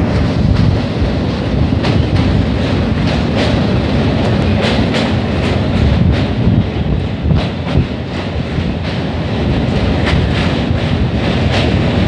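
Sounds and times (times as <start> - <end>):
train wheels rumbling on rails: 0.0 - 12.0
wheels clicking over rail joints: 0.0 - 12.0.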